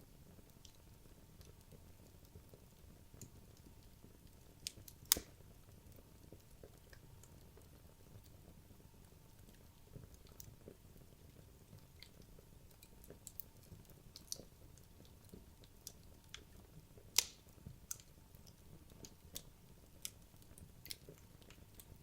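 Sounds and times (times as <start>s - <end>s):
logs crackling in fireplace: 0.0s - 22.0s.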